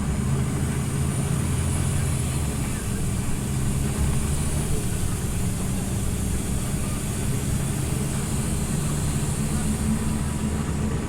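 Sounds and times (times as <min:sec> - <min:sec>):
bus engine humming: 0:00.0 - 0:11.0
road and cabin noise: 0:00.0 - 0:11.0.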